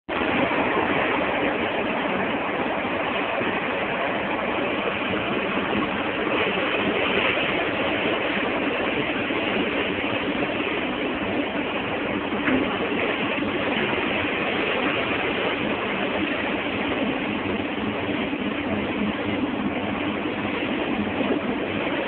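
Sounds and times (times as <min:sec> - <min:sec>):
boat engine running: 0:00.1 - 0:22.0
water rushing along hull: 0:00.1 - 0:22.0.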